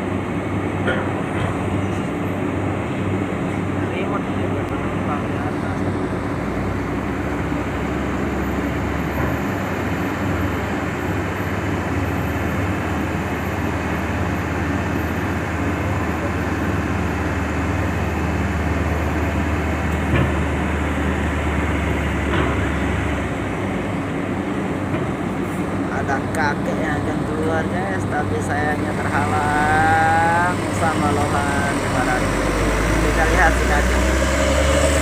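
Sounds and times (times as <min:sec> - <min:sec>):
heavy diesel engines humming: 0:00.0 - 0:35.0.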